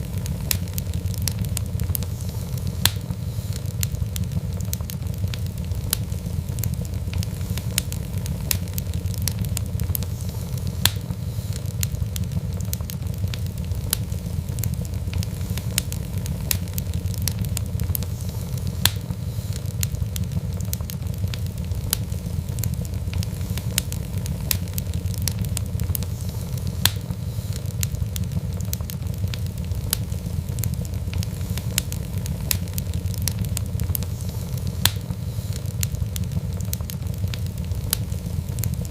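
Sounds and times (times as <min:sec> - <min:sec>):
fire crackles and pops: 0:00.0 - 0:38.9
wood fire rumbling: 0:00.0 - 0:38.9.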